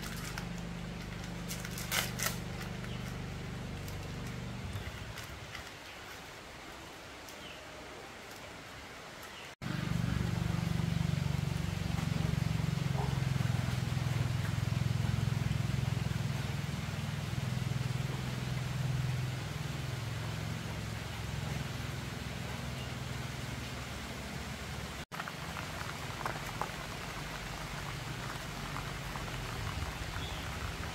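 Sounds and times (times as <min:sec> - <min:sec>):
engine humming steadily: 0:00.0 - 0:05.6, 0:09.6 - 0:30.9.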